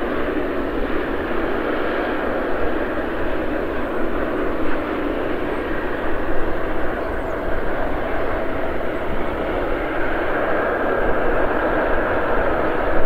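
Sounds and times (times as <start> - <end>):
faint engine whine: 0.0 - 13.0
jet engines running: 0.0 - 13.0.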